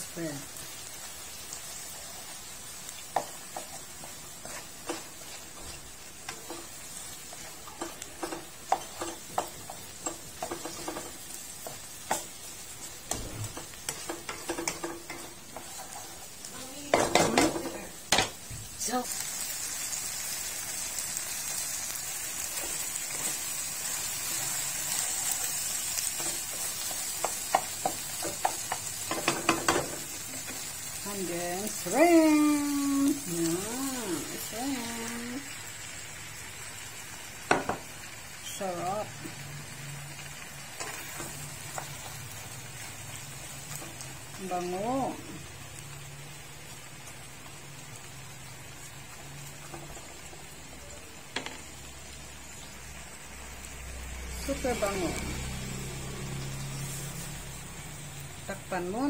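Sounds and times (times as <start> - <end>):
vegetables sizzling in a pan: 0.0 - 59.0.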